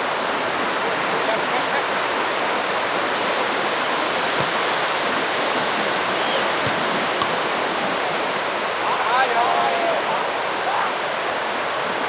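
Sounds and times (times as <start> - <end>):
ocean surf hissing: 0.0 - 11.8.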